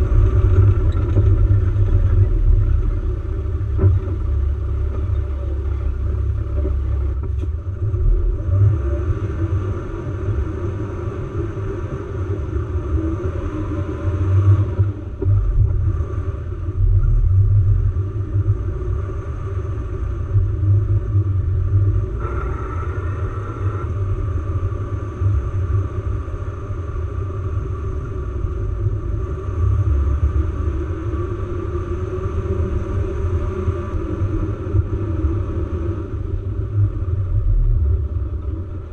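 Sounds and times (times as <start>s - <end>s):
off-road vehicle engine rumble: 0.0s - 38.9s.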